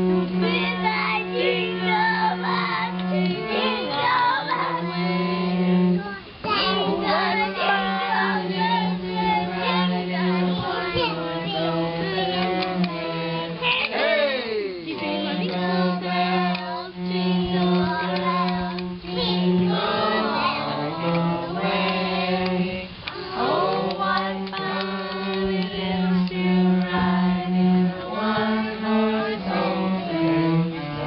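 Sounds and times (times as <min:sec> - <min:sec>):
cello bowed low notes: 0:00.0 - 0:13.8, 0:14.9 - 0:31.0
child singing: 0:00.0 - 0:14.1, 0:14.9 - 0:31.0.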